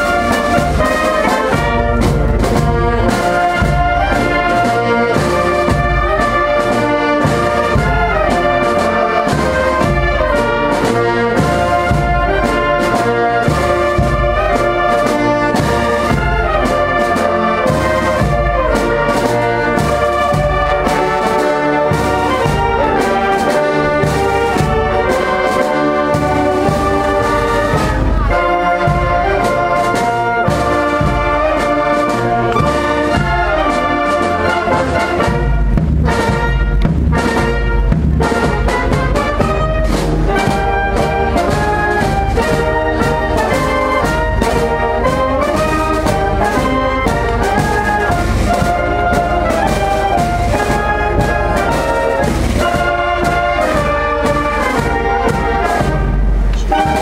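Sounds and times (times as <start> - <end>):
brass: 0.0 - 57.0
woodwinds: 0.0 - 57.0.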